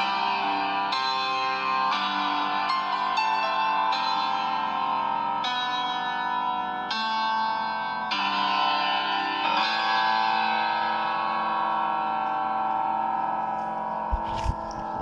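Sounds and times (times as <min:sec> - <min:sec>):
instrumental music with ringing notes: 0:00.0 - 0:15.0.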